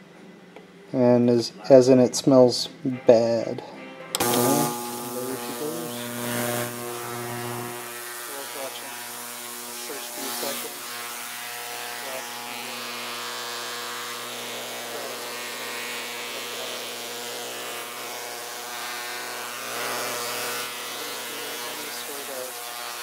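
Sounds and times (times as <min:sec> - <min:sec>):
ultrasonic cleaner buzzing: 0:04.1 - 0:23.0.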